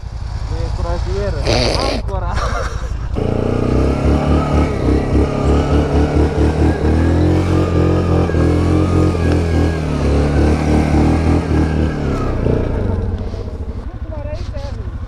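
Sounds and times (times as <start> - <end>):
atv engine revving unevenly: 0.0 - 15.0.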